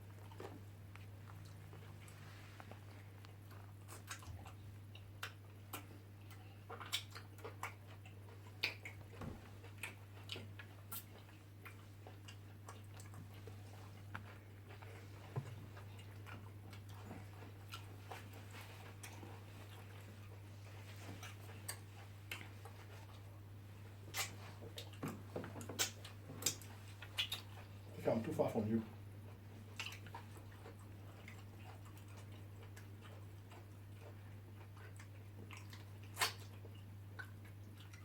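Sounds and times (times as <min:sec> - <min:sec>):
chewing and mouth smacking: 0:00.0 - 0:28.0, 0:28.9 - 0:38.0.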